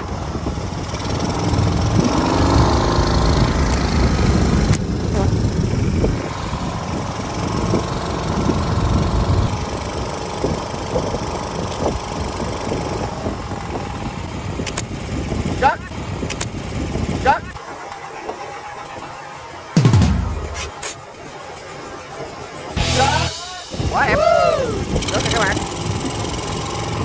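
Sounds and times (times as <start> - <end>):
small boat engine running: 0.0 - 27.0.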